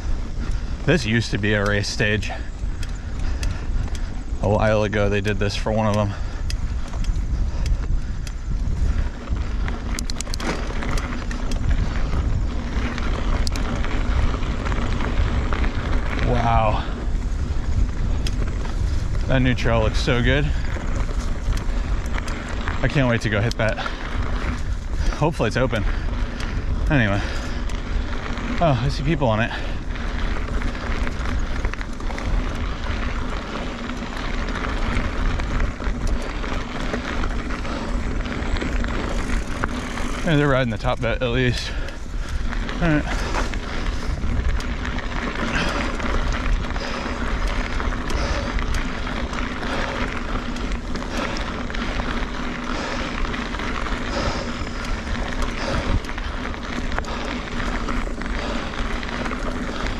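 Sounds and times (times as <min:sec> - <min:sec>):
bike clicks and rattles: 0:00.0 - 0:59.9
tyre noise on dirt: 0:00.0 - 0:59.9
wind on microphone: 0:00.0 - 0:59.9.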